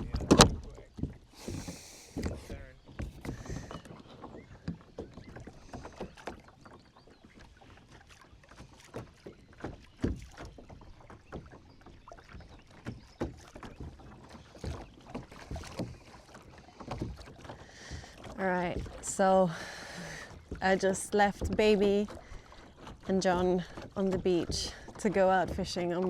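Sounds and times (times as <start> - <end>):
paddle knocking against hull: 0.0 - 26.0
paddle splashing water: 0.0 - 26.0.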